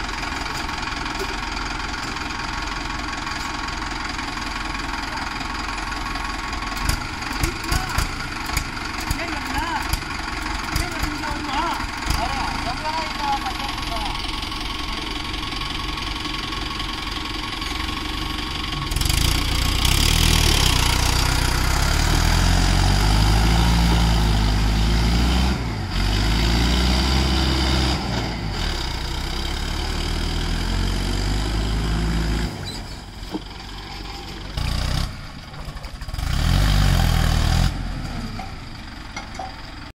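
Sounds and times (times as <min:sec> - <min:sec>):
tractor engines revving: 0:00.0 - 0:39.9.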